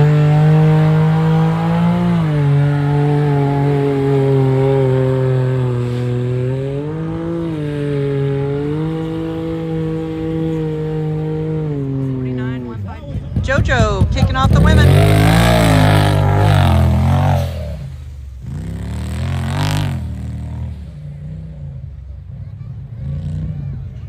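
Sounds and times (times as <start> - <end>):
engine at high revs: 0.0 - 13.0, 13.6 - 24.0.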